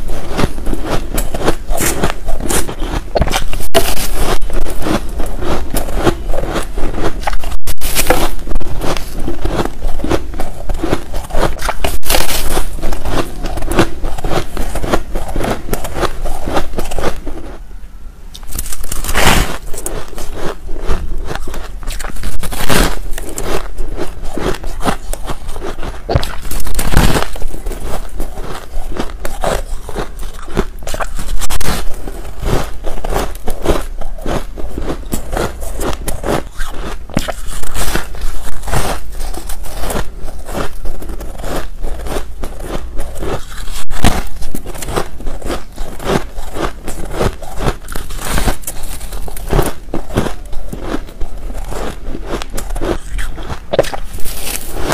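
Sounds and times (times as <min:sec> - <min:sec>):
crunching snow ice chewing: 0:00.0 - 0:17.6, 0:18.3 - 0:54.9.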